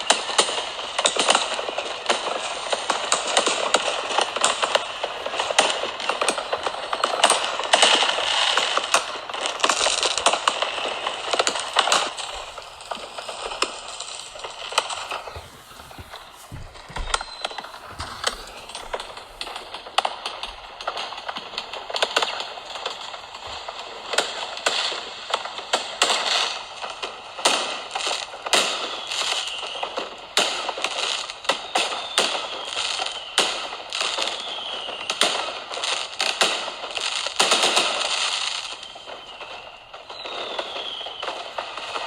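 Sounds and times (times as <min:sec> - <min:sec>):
falling firework whistles: 0:00.0 - 0:42.0
fireworks bangs and crackling: 0:00.0 - 0:42.0.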